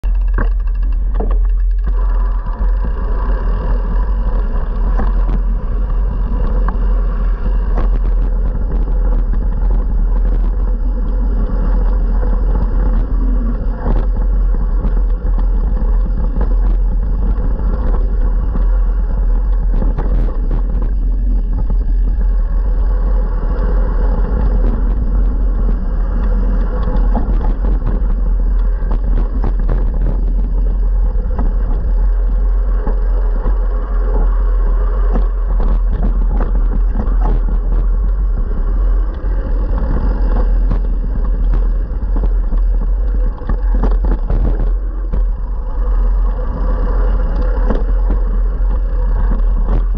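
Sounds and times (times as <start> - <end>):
mountain bike rattling on dirt trail: 0.0 - 49.9
wind rumble on microphone: 0.0 - 49.9.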